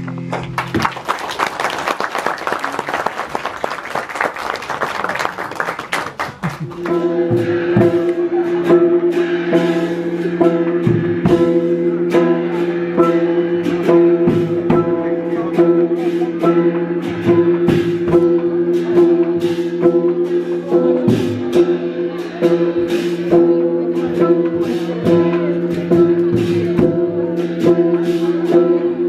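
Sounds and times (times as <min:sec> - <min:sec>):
percussion strikes: 0:00.0 - 0:29.0.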